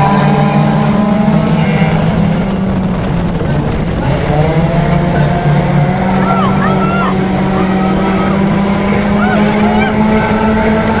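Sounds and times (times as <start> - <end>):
race vehicle engines running loud: 0.0 - 11.0.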